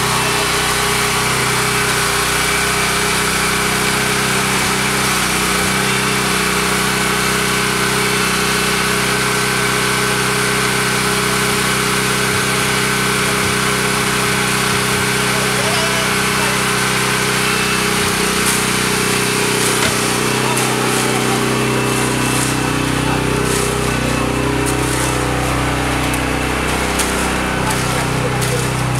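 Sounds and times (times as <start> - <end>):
small engine humming steadily: 0.0 - 28.9.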